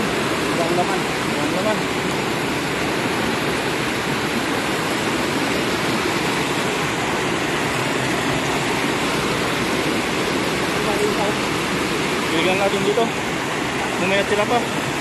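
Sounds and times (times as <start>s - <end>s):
water rushing through channel: 0.0s - 15.0s.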